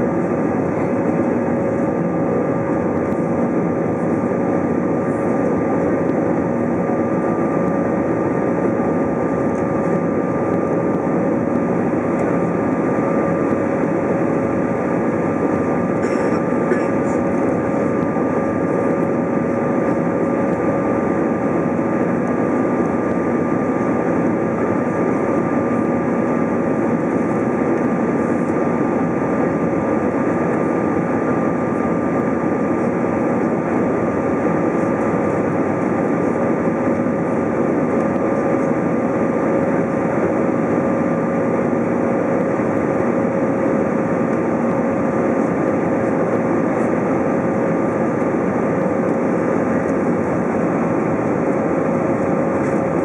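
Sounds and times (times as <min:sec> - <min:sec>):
jet engine and airflow rush: 0:00.0 - 0:53.0.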